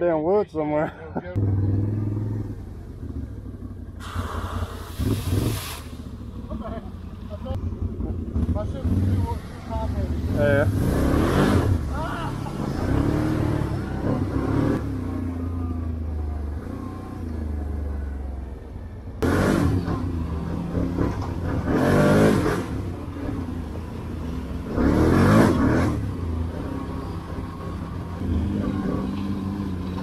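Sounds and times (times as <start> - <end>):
atv engine revving: 1.4 - 18.2, 19.2 - 30.0.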